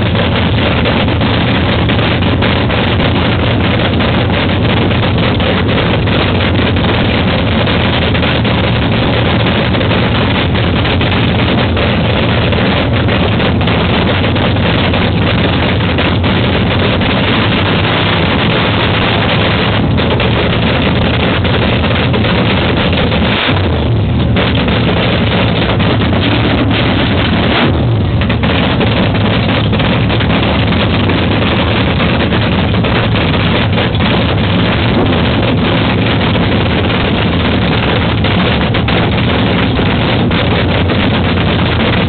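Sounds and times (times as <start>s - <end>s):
race car engine idling: 0.0s - 42.0s.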